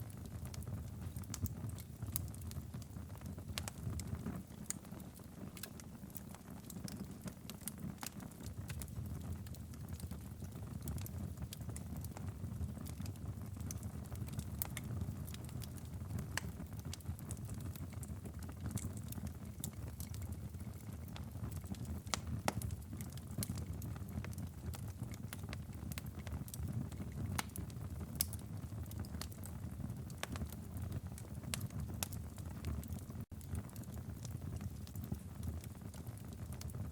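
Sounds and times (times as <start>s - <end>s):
wood fire crackling: 0.0s - 36.9s.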